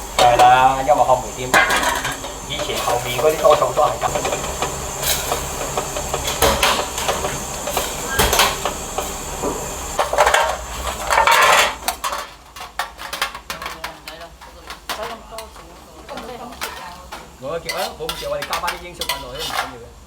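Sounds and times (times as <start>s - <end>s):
metal pots clattering and scraping: 0.0s - 20.0s
steady hiss: 0.0s - 20.0s.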